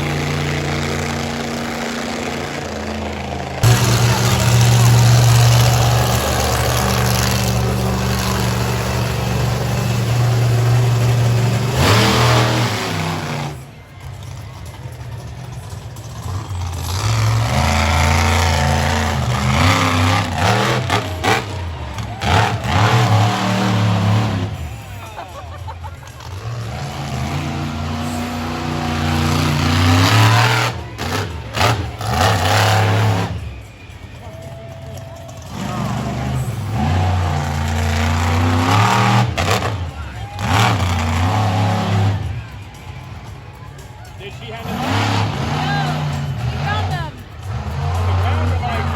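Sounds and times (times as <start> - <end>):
monster truck engine revving: 0.0 - 48.9.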